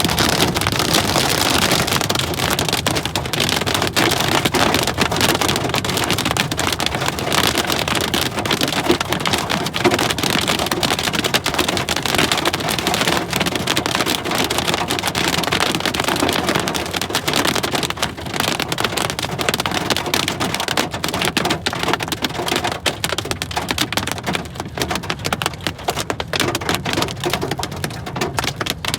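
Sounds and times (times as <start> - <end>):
hail clattering on car: 0.0 - 28.9.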